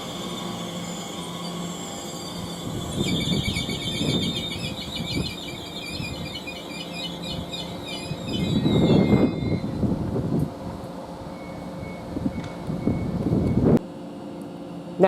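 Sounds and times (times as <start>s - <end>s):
metallic train squeal: 0.0s - 10.0s, 11.2s - 13.8s
low train rumble: 0.0s - 15.0s.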